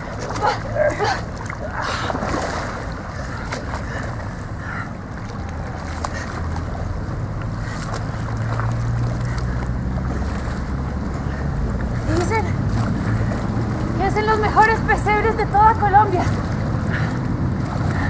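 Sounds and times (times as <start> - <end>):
low steady rumble: 0.0 - 18.0
water splashing and sloshing: 0.0 - 18.0.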